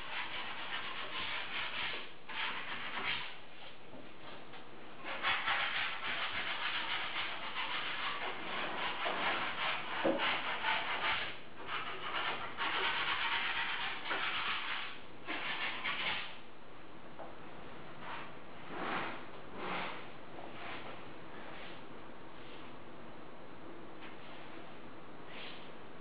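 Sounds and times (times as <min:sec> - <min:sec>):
wallpaper rubbed against wall: 0:00.0 - 0:04.4, 0:05.0 - 0:16.4, 0:18.0 - 0:22.8, 0:24.1 - 0:25.7.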